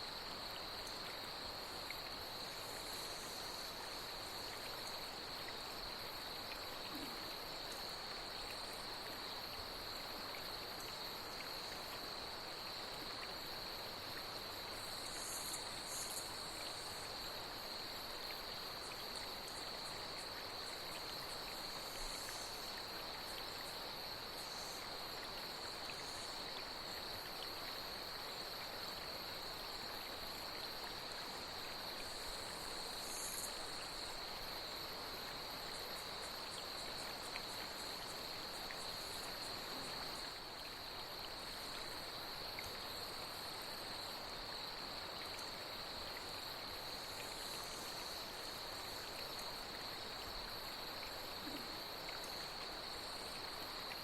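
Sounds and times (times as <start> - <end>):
flowing water: 0.0 - 54.0
night insects trilling: 0.0 - 54.0.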